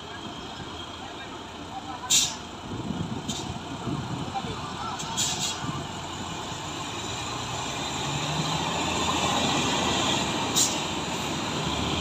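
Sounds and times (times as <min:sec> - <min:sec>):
diesel trucks running: 0:00.0 - 0:12.0.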